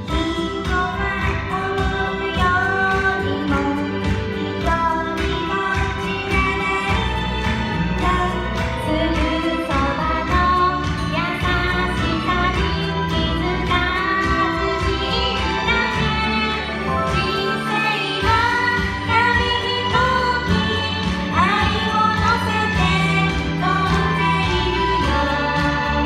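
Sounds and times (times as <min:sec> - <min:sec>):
instrumental backing with bass: 0:00.0 - 0:26.0
two women singing pop ballad: 0:00.0 - 0:26.0.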